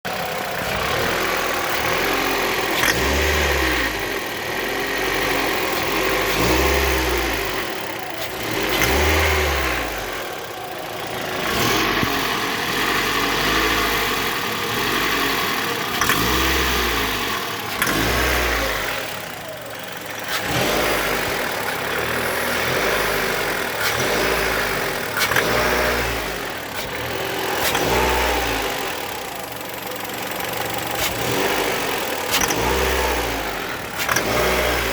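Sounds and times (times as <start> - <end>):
car engine revving: 0.0 - 34.9
deep engine rumble: 0.0 - 34.9.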